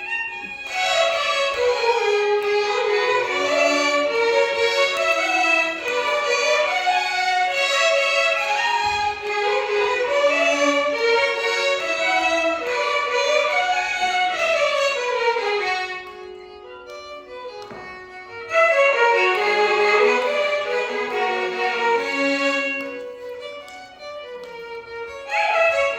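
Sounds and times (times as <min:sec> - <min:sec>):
violins playing melody: 0:00.0 - 0:25.9.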